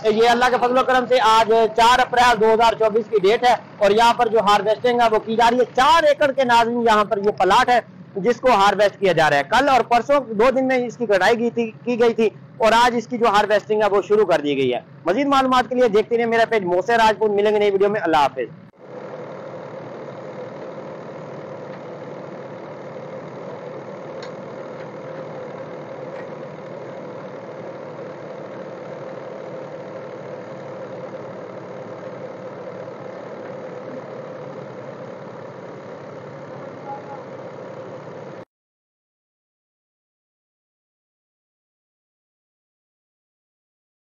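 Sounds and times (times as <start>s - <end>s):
tractor engine running: 0.0s - 38.4s.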